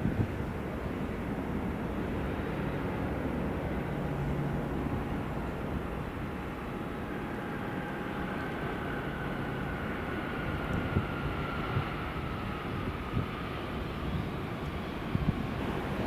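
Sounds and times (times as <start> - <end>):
high engine whine: 0.0 - 16.0
jet engines rumbling: 0.0 - 16.0.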